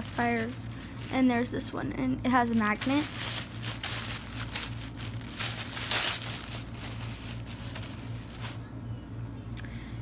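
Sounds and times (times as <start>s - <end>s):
plastic and paper wrapping crinkling: 0.0s - 8.6s.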